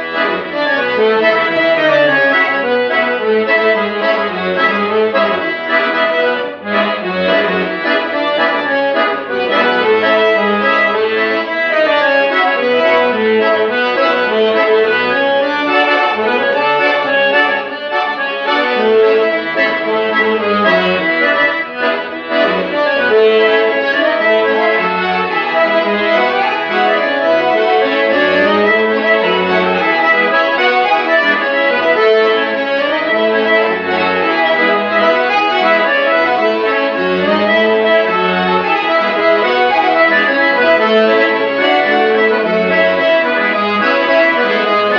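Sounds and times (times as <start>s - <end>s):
accordion playing a tune: 0.0s - 44.9s.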